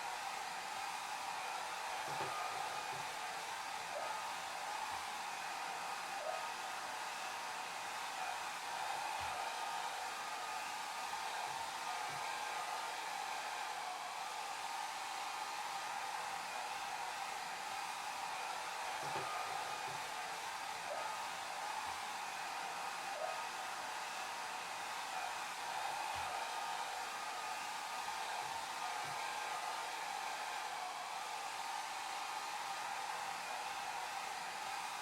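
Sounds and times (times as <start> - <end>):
hair dryer blowing: 0.0 - 35.0.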